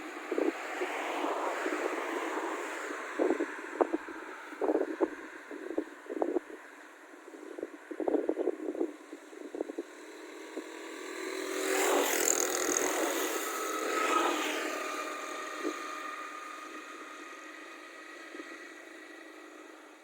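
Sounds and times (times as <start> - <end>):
vehicle engine passing by: 0.0 - 6.6, 9.0 - 20.0.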